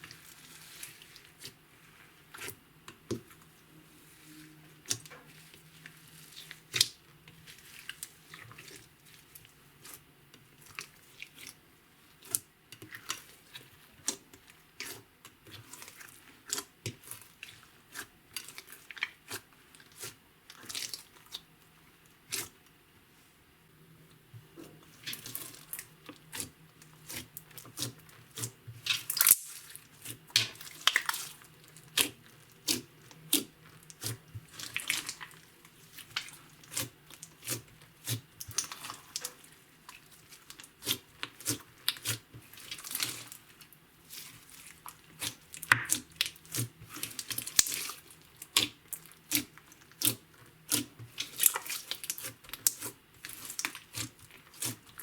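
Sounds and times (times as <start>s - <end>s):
slime kneaded by hand: 0.0s - 21.5s, 24.3s - 55.0s.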